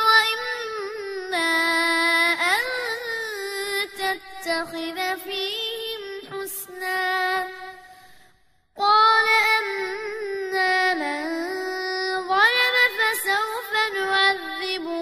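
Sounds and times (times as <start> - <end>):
boy reciting melodically: 0.0 - 7.9, 8.8 - 15.0.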